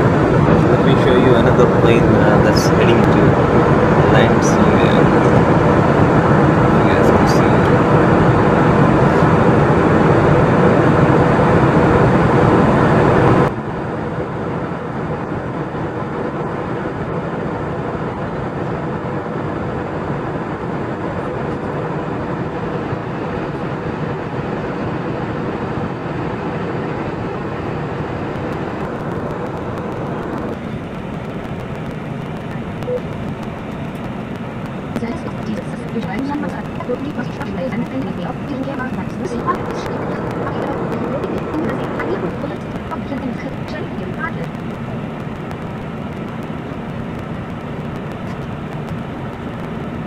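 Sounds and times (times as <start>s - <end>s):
airplane cabin engine and airflow noise: 0.0s - 50.0s.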